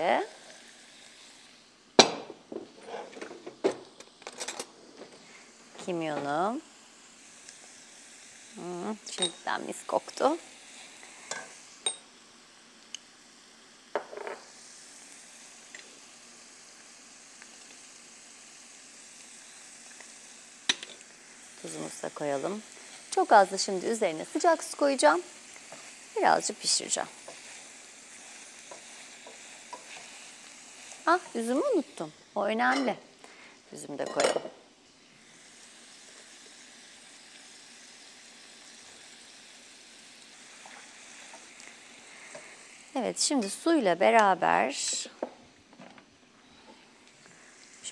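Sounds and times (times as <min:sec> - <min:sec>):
vegetables sizzling in oil: 0:00.0 - 0:47.9.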